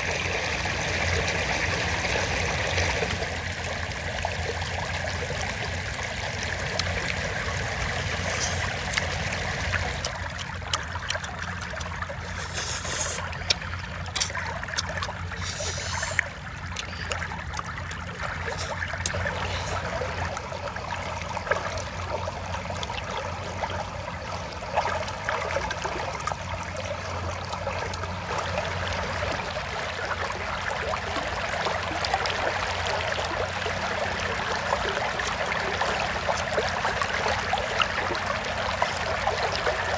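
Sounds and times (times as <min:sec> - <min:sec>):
shallow water flowing: 0:00.0 - 0:39.9.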